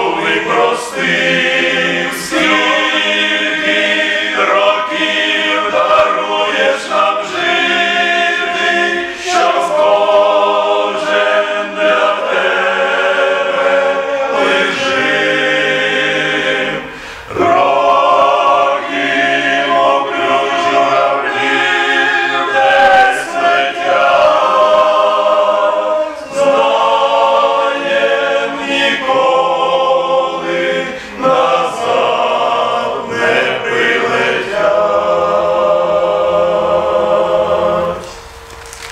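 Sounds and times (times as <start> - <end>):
men's choir singing a hymn: 0.0 - 38.4.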